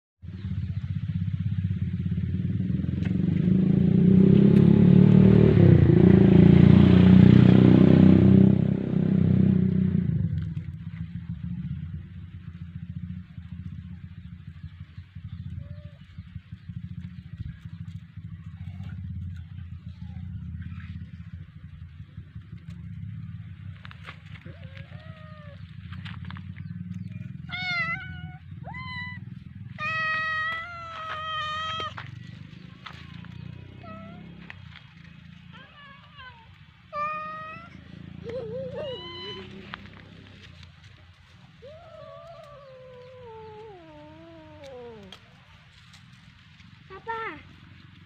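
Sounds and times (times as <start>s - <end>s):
vehicle engine passing by: 0.2s - 48.0s
low rumble: 0.3s - 48.0s.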